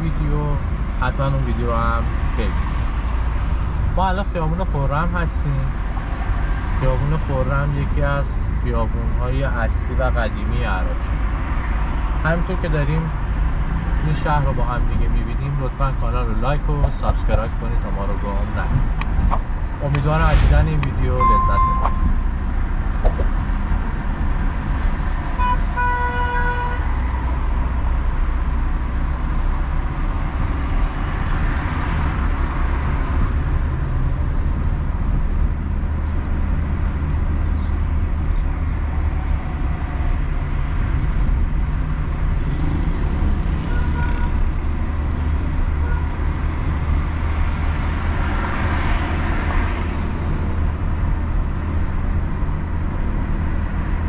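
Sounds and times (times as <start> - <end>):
car driving in traffic: 0.0 - 54.0.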